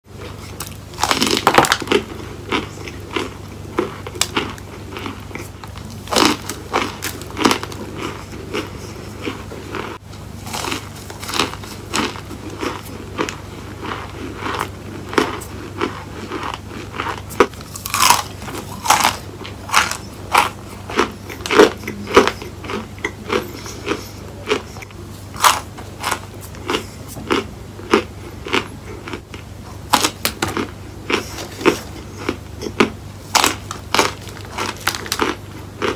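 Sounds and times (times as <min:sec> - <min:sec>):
steady low hum: 0:00.0 - 0:35.9
crunchy chewing: 0:00.1 - 0:35.9.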